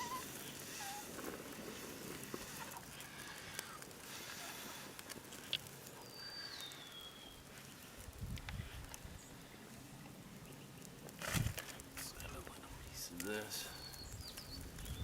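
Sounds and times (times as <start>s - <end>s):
small fire crackling: 0.0s - 15.0s.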